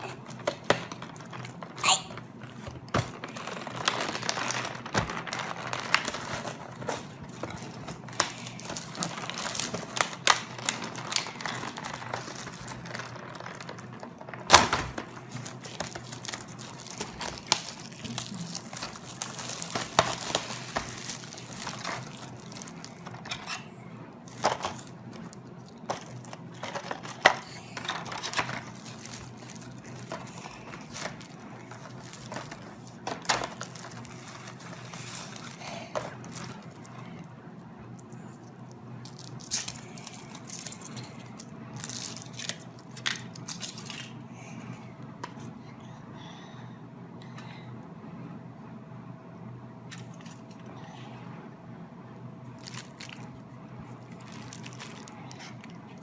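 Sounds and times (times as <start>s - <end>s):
foil wrapper crinkling and tearing: 0.0s - 44.2s, 52.6s - 56.0s.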